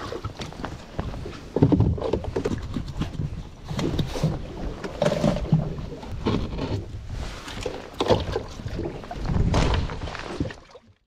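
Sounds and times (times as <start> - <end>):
water sloshing against boat hull: 0.0 - 11.0.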